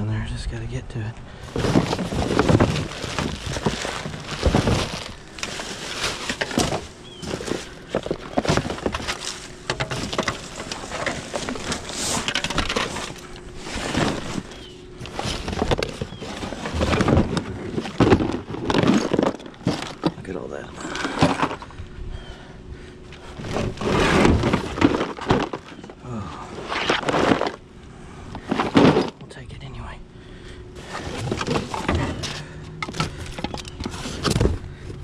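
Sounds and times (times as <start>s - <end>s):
trash bags rustling and crinkling: 1.4s - 21.8s, 23.1s - 29.2s, 30.7s - 35.0s.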